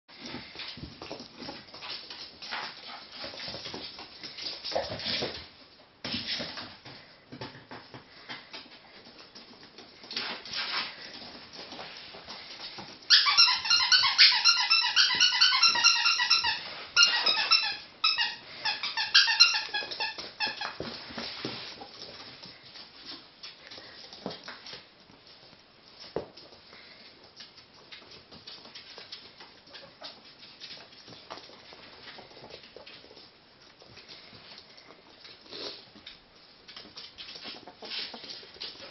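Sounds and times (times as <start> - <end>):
ferrets scuffling on wooden floor: 0.1 - 38.9.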